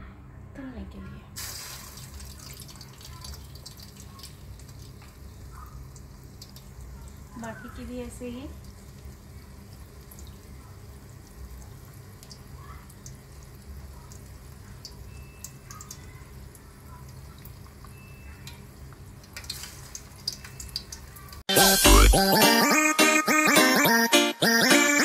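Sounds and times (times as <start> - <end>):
frying oil sizzling and crackling: 1.4 - 22.1.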